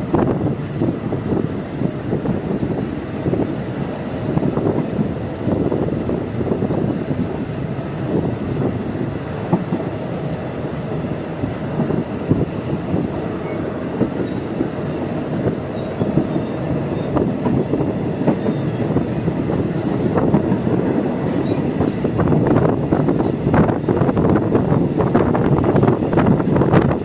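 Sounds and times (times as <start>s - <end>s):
train car clacks and rattles: 0.0s - 27.0s
train wheels rumbling on rails: 0.0s - 27.0s.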